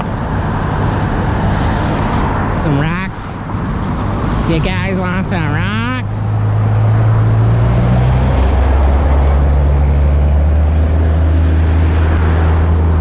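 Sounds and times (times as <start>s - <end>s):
broad rushing noise: 0.0s - 13.0s
engine droning: 0.0s - 13.0s.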